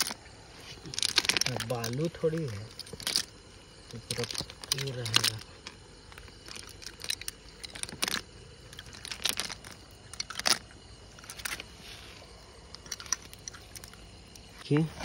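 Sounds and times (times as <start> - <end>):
fishing net rustling: 0.0 - 14.5
wet pebbles clicking and crunching: 0.0 - 15.0.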